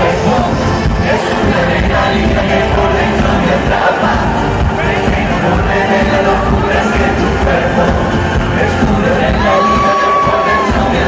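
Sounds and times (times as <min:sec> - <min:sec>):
amplified band with drums: 0:00.0 - 0:11.0
man singing into a microphone: 0:00.0 - 0:11.0.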